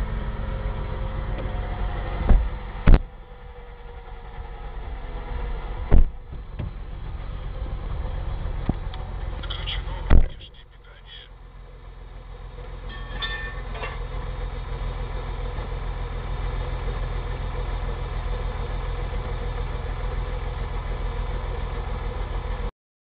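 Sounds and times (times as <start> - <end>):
car engine idling: 0.0 - 22.7.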